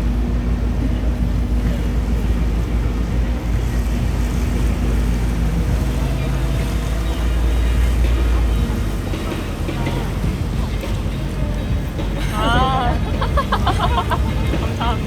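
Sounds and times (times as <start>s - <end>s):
boat engine running: 0.0s - 15.0s
water rushing: 0.0s - 15.0s.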